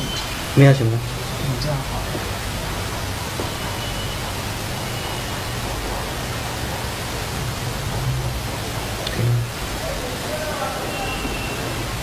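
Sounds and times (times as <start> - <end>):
machine hiss and hum: 0.0 - 12.0.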